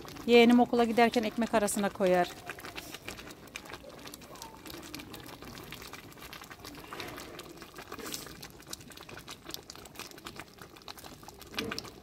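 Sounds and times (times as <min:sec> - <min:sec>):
thick jam boiling with pops: 0:00.0 - 0:12.0.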